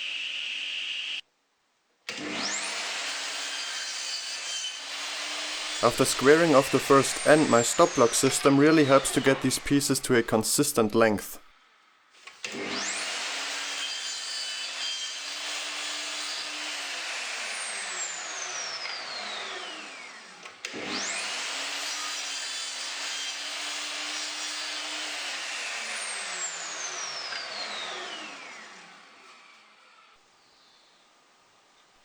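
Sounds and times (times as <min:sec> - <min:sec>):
miter saw motor whine: 0:02.1 - 0:09.4, 0:12.5 - 0:30.8
saw blade cutting wood: 0:02.1 - 0:11.1, 0:12.4 - 0:29.6.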